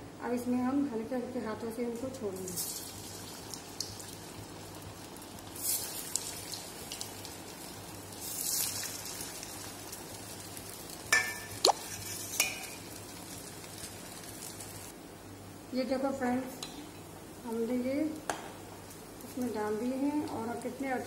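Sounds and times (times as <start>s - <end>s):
food deep-frying in oil: 1.7s - 15.0s, 15.7s - 21.0s.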